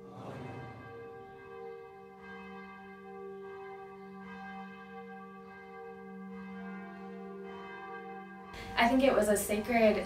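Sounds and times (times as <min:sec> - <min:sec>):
deep bell tones ringing: 0:00.0 - 0:10.0.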